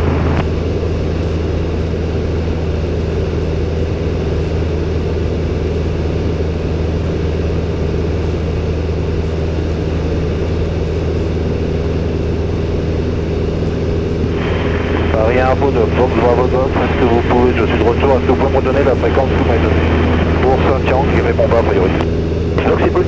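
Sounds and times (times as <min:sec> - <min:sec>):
light aircraft engine droning: 0:00.0 - 0:23.0.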